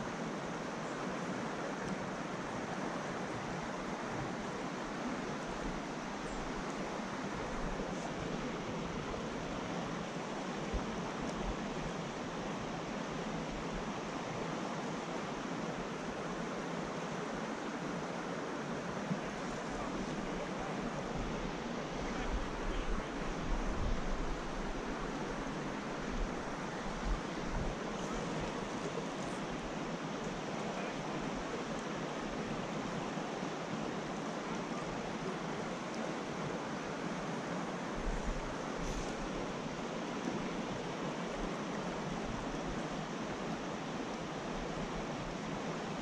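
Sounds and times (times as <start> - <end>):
creek water flowing over rocks: 0.0 - 46.0.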